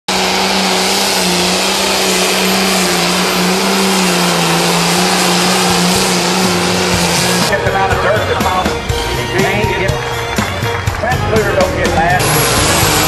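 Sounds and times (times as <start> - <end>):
tractor engine high-revving: 0.0 - 13.0.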